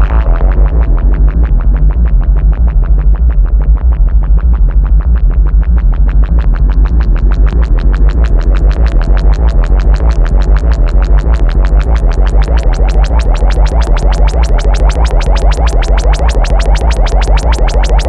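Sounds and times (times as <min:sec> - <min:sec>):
deep synth bass: 0:00.0 - 0:18.0
synthesizer note sequence: 0:00.0 - 0:18.0.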